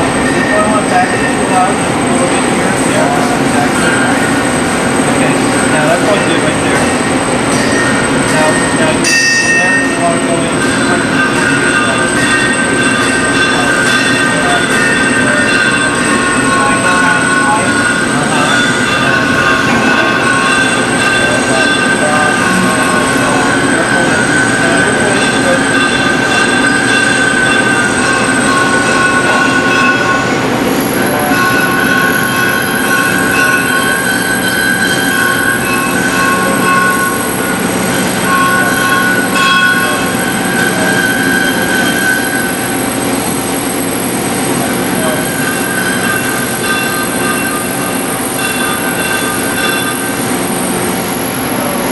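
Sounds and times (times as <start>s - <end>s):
high squealing cutting tone: 0.0s - 51.4s.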